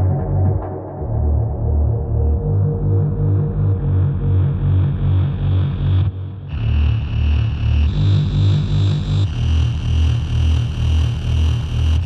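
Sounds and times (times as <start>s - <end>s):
bass-heavy electronic dance music: 0.0s - 12.0s.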